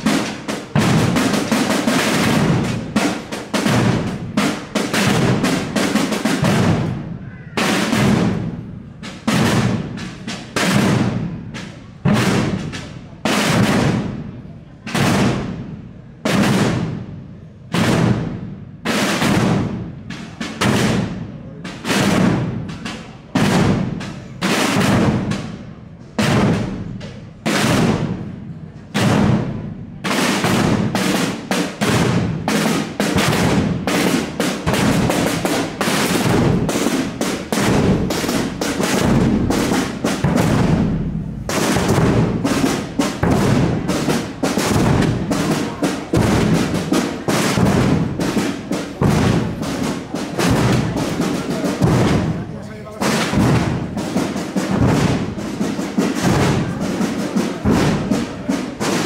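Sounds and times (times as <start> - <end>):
marching drums: 0.0 - 59.0.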